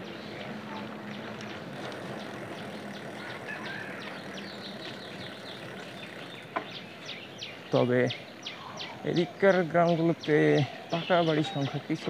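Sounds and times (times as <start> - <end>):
bicycle road and wind noise: 0.0 - 12.0.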